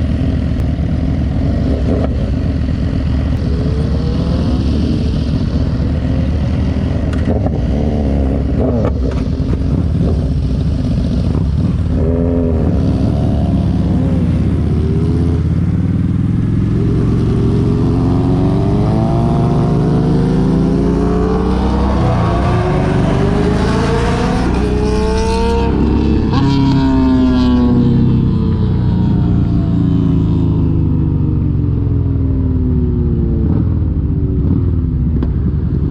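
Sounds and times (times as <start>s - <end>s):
motorcycle engine accelerating: 0.0s - 35.9s.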